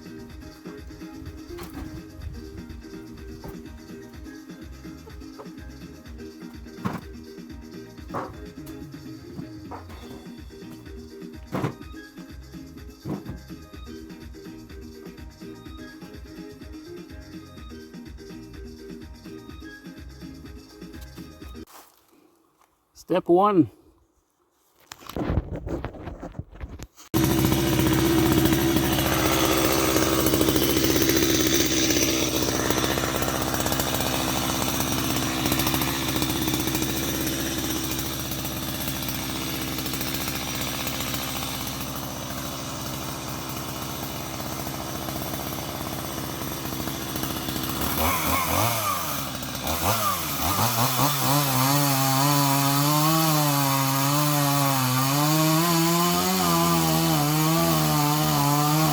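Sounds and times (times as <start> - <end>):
chainsaw cutting wood: 0.0 - 18.0, 27.0 - 58.9.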